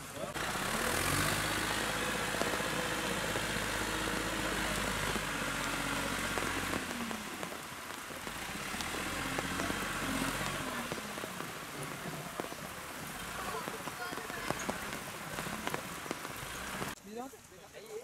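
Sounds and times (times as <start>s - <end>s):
diesel backhoe engine under load: 0.0s - 17.0s
rain hiss: 0.0s - 18.0s.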